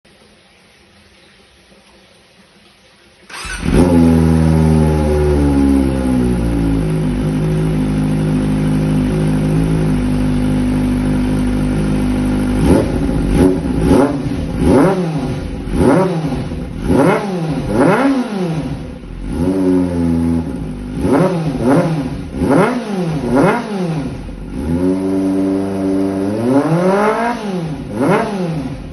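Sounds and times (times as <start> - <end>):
motorcycle engine revving: 3.3 - 28.9.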